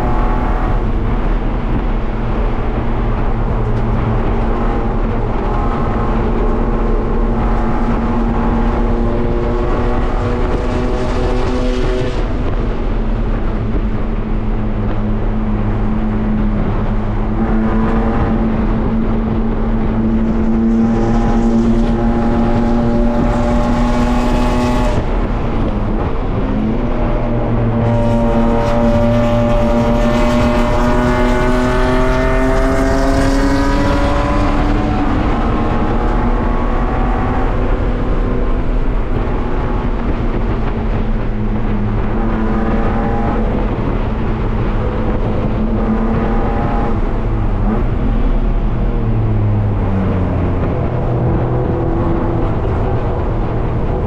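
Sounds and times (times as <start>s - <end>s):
race car engine pulling hard: 0.0s - 54.0s.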